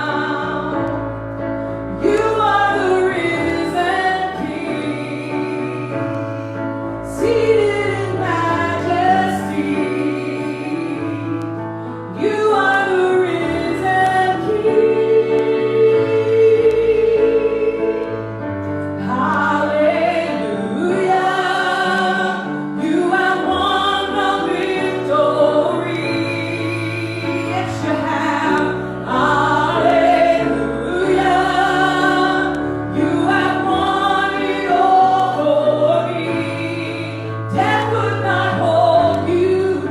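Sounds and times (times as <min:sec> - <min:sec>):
choir singing worship song: 0:00.0 - 0:39.9.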